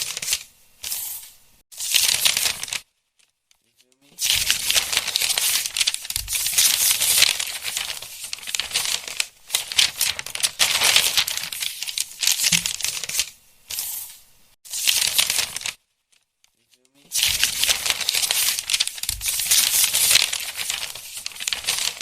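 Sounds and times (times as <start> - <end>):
book pages flipping: 0.0 - 22.0.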